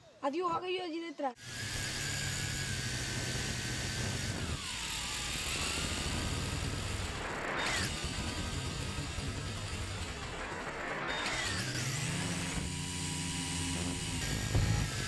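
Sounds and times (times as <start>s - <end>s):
drone propellers whining: 1.4s - 15.0s.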